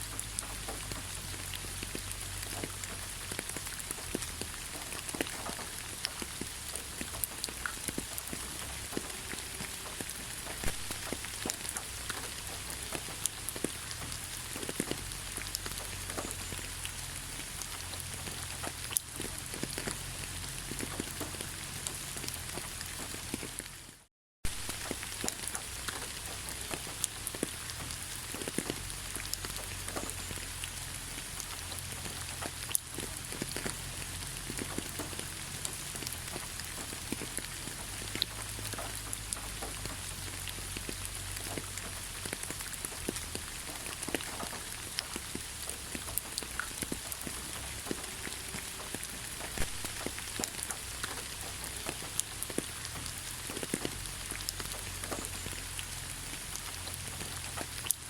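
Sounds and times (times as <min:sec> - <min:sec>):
raindrops ticking: 0:00.0 - 0:58.0
steady rain hiss: 0:00.0 - 0:58.0.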